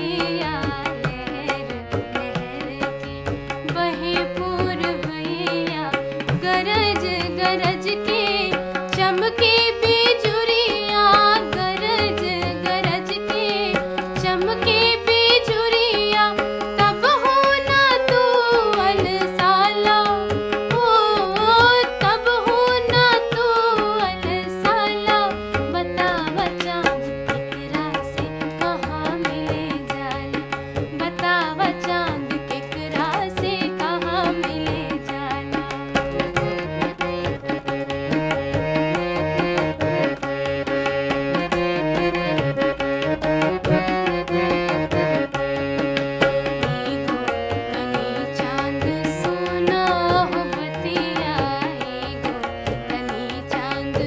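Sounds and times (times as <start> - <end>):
woman singing: 0.0 - 40.3, 46.4 - 54.0
harmonium melody: 0.0 - 54.0
tabla drumming: 0.0 - 54.0.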